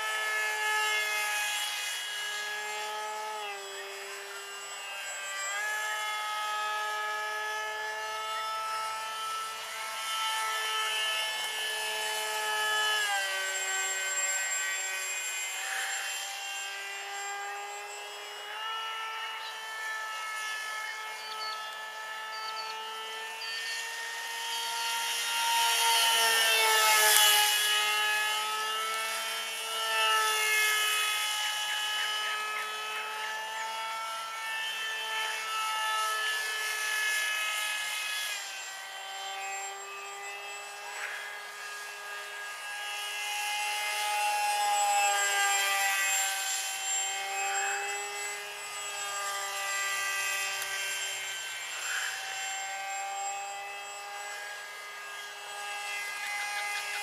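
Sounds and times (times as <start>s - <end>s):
model plane motor whining: 0.0s - 57.0s.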